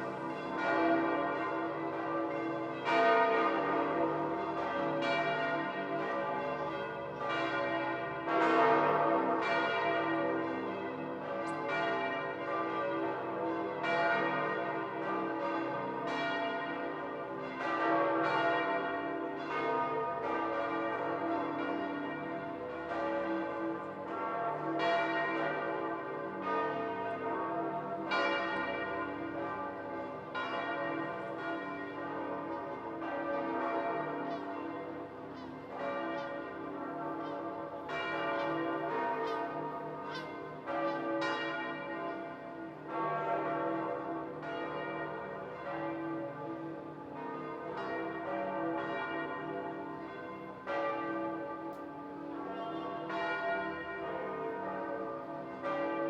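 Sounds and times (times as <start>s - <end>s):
church bells ringing in peal: 0.0s - 56.0s.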